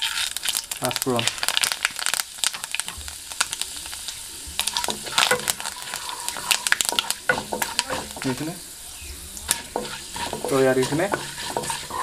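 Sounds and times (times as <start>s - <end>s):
seeds frying in oil: 0.0s - 12.0s
sharp crackles and pops: 0.0s - 12.0s.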